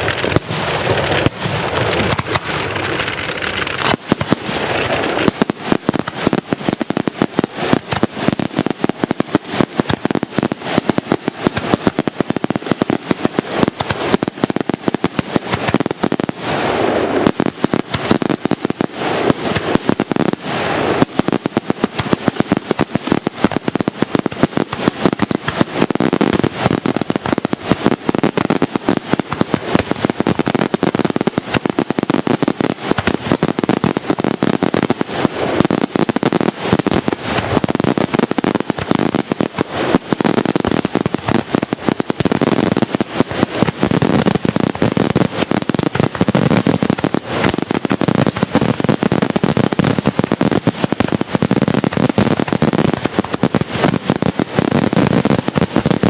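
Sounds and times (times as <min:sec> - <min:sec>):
firework shells bursting: 0:00.0 - 0:56.0.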